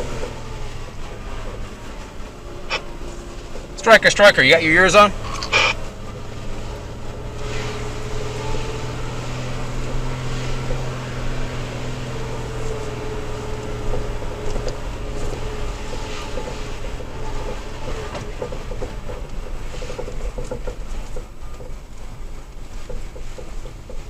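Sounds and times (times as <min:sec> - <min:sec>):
low engine hum: 0:00.0 - 0:24.0
tyre and road noise: 0:00.0 - 0:24.0.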